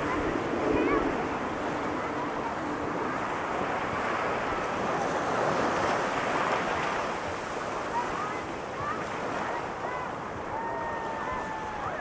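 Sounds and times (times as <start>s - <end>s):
ocean surf breaking on beach: 0.0s - 12.0s
wind buffeting microphone: 0.0s - 12.0s.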